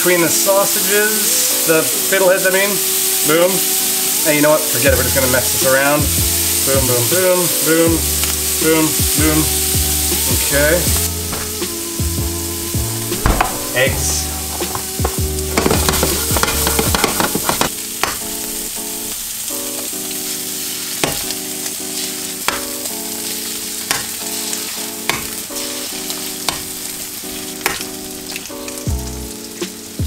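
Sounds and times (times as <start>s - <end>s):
background music with light beat: 0.0s - 30.0s
food sizzling in a frying pan: 0.0s - 30.0s.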